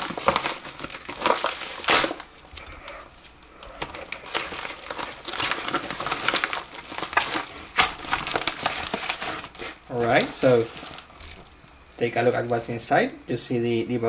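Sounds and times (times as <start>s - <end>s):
padded envelope tearing and crinkling: 0.0s - 12.7s.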